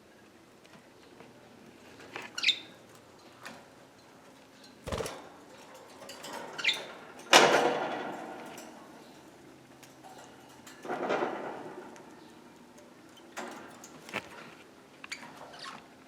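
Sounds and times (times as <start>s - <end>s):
rustling clatter in cage: 1.8s - 16.0s.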